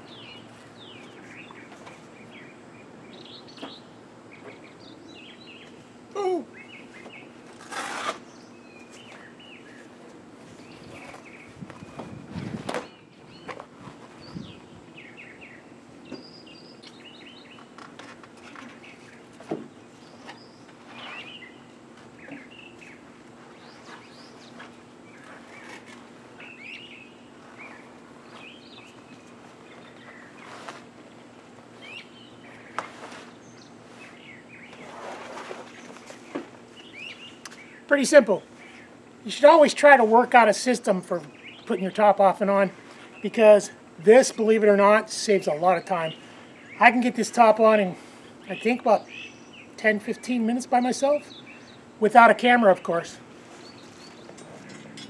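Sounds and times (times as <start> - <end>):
birds chirping and singing: 0.0 - 7.6, 8.2 - 55.0
faint steady hum: 0.0 - 55.0.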